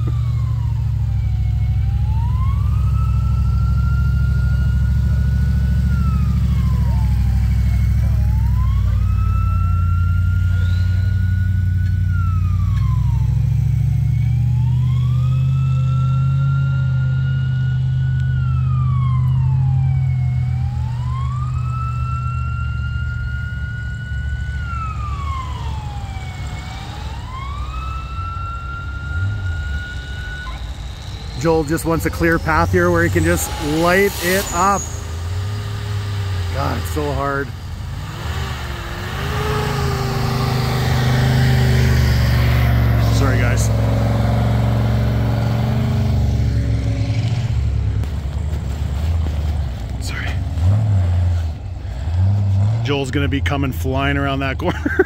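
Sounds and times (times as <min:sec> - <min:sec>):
siren-like wail: 0:00.0 - 0:48.4
vehicle engine rumbling: 0:00.0 - 0:55.0.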